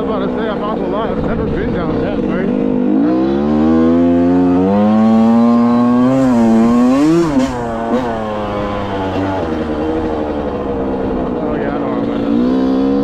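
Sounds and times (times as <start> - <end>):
dirt bike two-stroke engine revving: 0.0 - 13.0.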